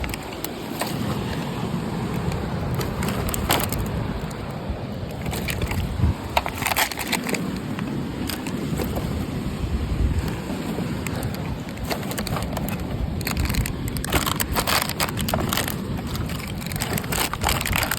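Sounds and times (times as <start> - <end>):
stones and plastic clicking: 0.0 - 1.4, 2.1 - 4.5, 5.1 - 9.2, 11.0 - 17.9
sea surf washing: 0.0 - 17.9.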